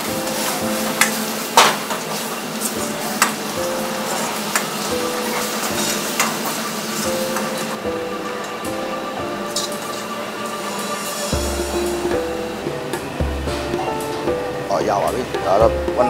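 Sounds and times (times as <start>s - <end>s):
food sizzling in a wok: 0.0s - 14.7s.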